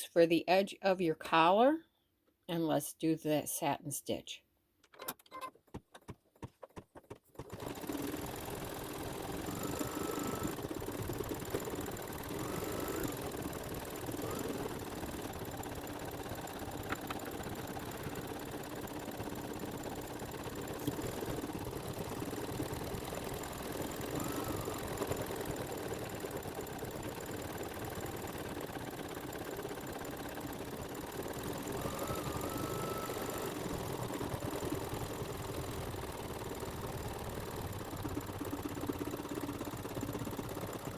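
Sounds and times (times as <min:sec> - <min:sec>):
embroidery machine stitching: 0:07.3 - 0:40.9.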